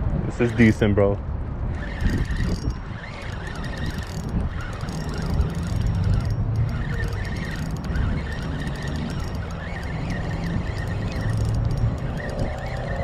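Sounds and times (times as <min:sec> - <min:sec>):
fishing reel cranking: 0:00.3 - 0:01.0, 0:01.7 - 0:13.0.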